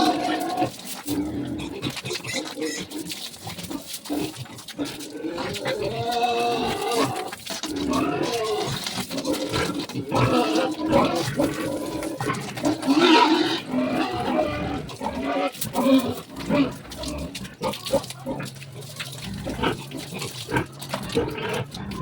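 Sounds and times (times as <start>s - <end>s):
pigs squealing and grunting: 0.0s - 22.0s.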